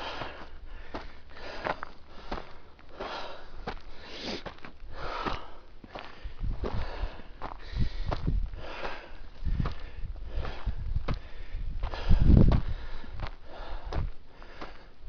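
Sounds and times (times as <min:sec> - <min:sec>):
heavy hard breathing: 0:00.0 - 0:15.0.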